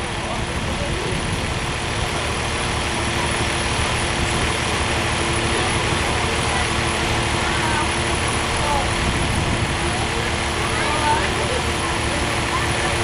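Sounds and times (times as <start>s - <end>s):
jet engines rumbling overhead: 0.0s - 13.0s.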